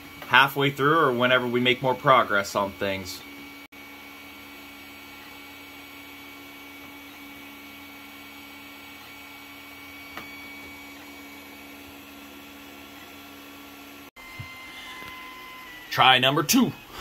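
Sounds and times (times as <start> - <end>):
printer humming and whining: 0.0 - 17.0.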